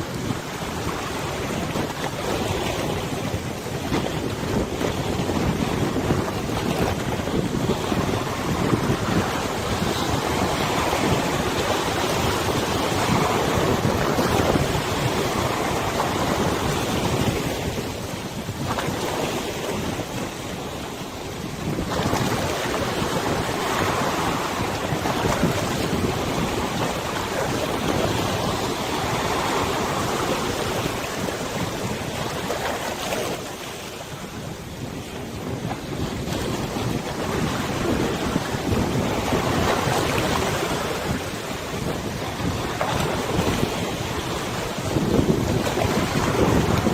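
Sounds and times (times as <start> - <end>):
river water washing: 0.0 - 46.9
wind rushing over microphone: 0.0 - 46.9.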